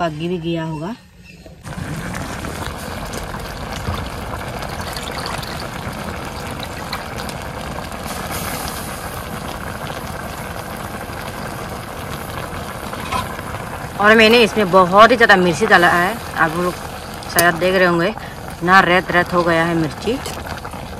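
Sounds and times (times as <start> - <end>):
food sizzling in a wok: 1.6 - 20.9.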